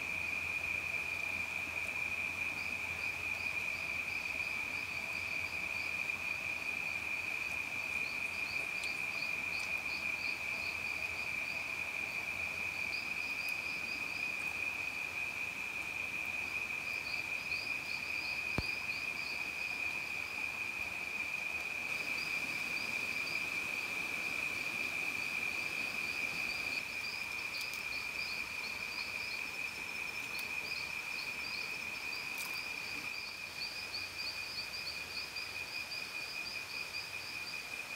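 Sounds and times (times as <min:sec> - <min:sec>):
crickets chirping trills: 0:00.0 - 0:37.9.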